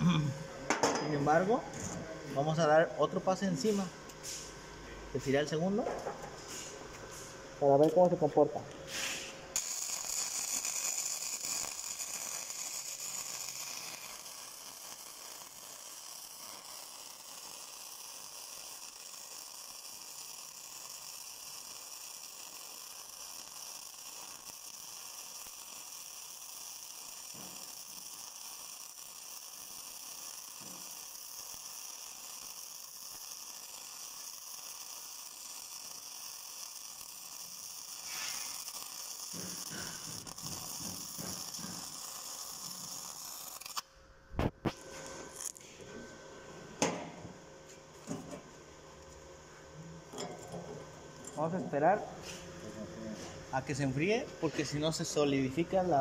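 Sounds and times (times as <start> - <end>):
arc welding hiss: 0.0 - 56.0.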